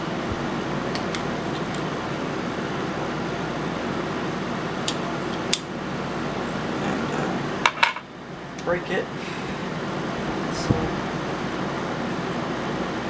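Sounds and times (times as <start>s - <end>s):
steady fan-like hiss: 0.0s - 13.0s.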